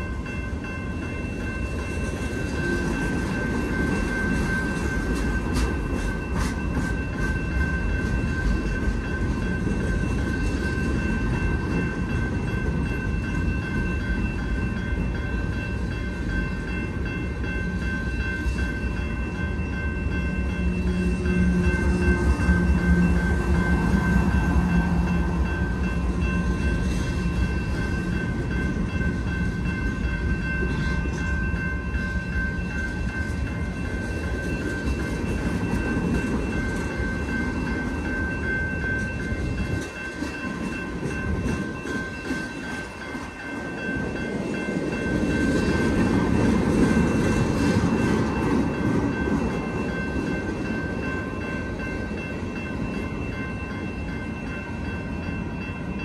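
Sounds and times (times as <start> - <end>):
diesel locomotive hum: 0.0 - 56.0
train wheels rumbling on rails: 0.0 - 56.0.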